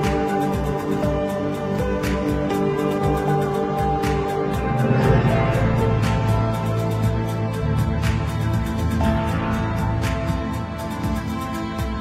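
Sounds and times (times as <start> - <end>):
background music with light beat: 0.0 - 12.0.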